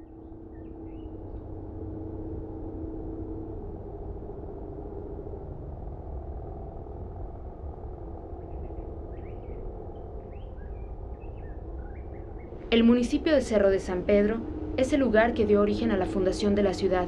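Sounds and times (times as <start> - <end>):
faint hum: 0.0 - 17.0
steady low rumble: 0.0 - 17.0.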